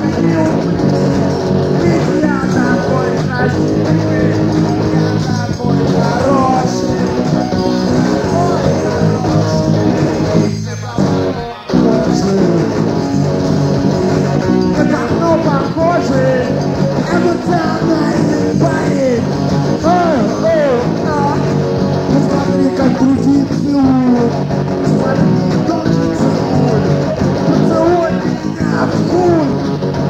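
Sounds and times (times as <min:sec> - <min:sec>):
electric guitar bending high notes: 0:00.0 - 0:30.0
rock band playing: 0:00.0 - 0:30.0.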